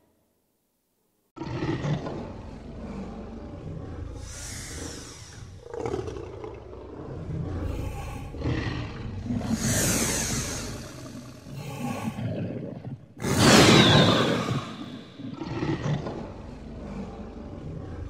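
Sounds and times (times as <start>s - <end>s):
dinosaur roaring: 1.4s - 18.0s.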